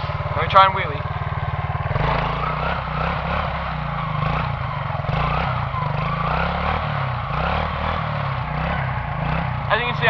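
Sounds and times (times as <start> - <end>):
quad bike engine revving: 0.0 - 10.0.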